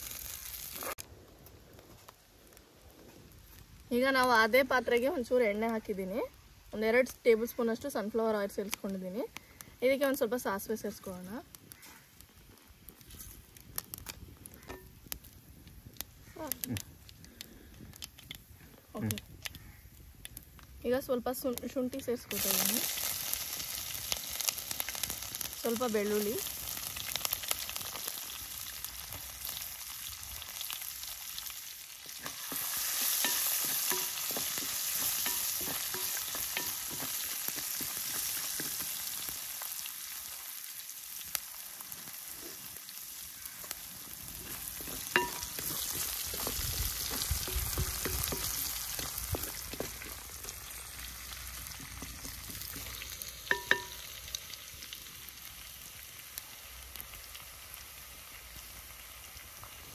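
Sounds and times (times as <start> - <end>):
food sizzling in oil: 0.0 - 1.0, 3.3 - 17.1, 19.0 - 59.9.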